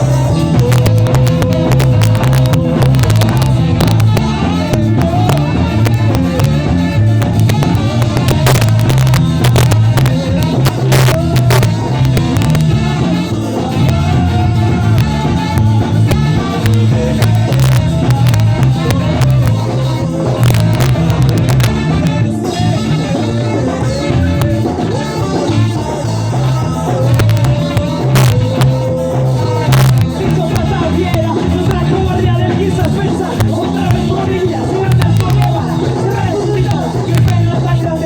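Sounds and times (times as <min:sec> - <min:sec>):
live ska band playing: 0:00.0 - 0:38.0.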